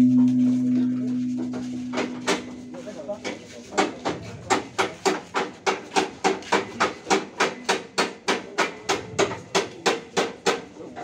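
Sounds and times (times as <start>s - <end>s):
hard ringing knocks: 0.0s - 10.6s.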